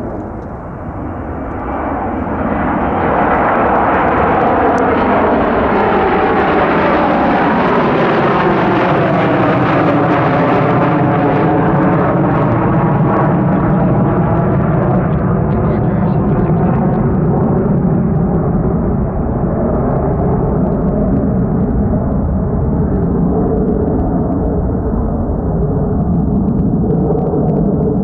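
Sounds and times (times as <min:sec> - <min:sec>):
jet engine noise: 0:00.0 - 0:28.0.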